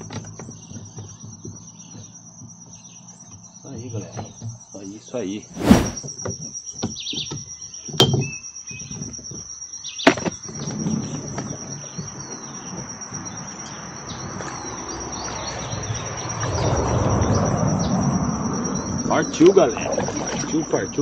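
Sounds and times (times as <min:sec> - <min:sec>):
insect trill: 0:00.5 - 0:05.4, 0:06.0 - 0:21.0.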